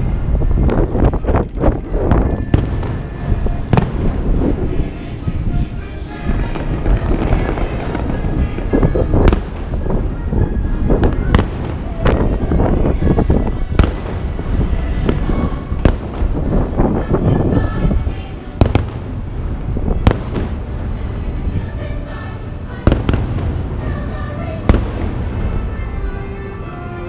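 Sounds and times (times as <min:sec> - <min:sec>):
rumble of fireworks booms: 0:00.0 - 0:26.2
fireworks cracking: 0:00.0 - 0:26.7
music playing: 0:00.0 - 0:27.0.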